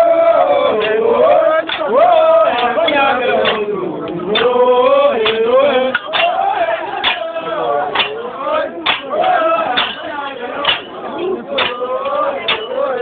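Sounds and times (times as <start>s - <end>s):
male voices chanting: 0.0s - 13.0s.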